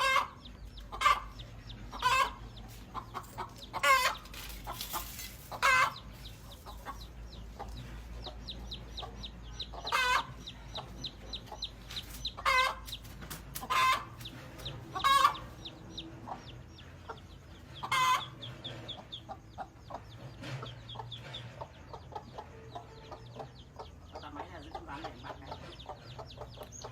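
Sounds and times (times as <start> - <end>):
chicks peeping: 0.0 - 26.9.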